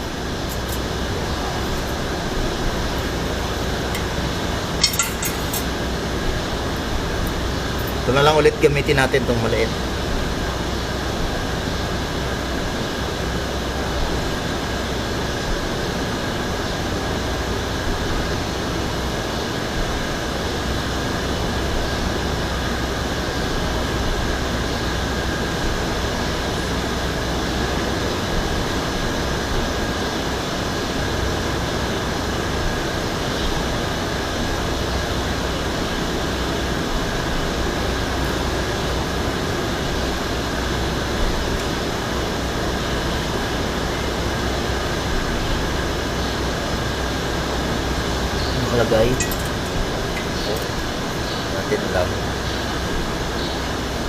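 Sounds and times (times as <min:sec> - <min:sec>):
faint high whine: 0:00.0 - 0:54.0
steady droning background: 0:00.0 - 0:54.0.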